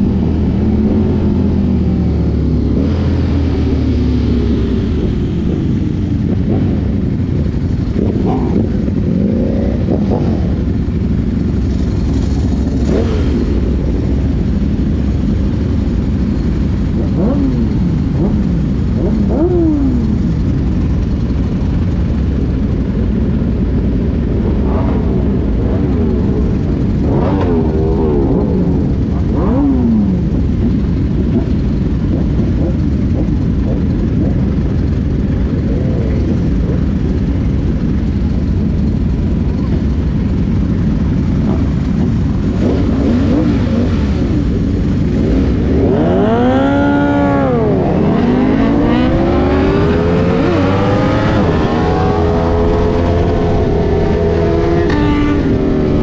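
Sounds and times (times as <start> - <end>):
motorcycles accelerating: 0.0 - 56.0
motorcycles idling: 0.0 - 56.0.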